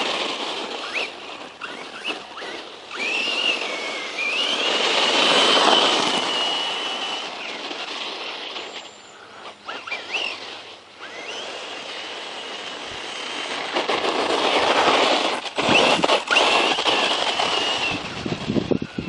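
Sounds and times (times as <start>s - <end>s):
electric motor whine: 0.0s - 19.0s
rough rushing noise: 0.0s - 19.0s.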